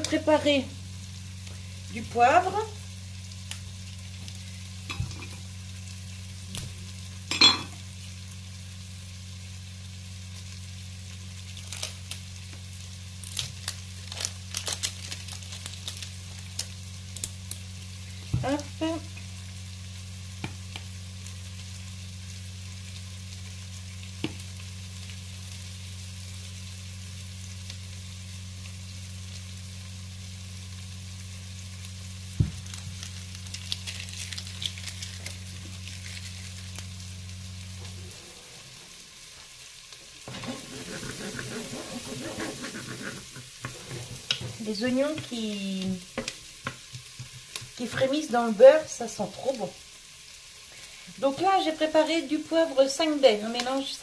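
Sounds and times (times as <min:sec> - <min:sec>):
onion sizzling in butter: 0:00.0 - 0:54.0.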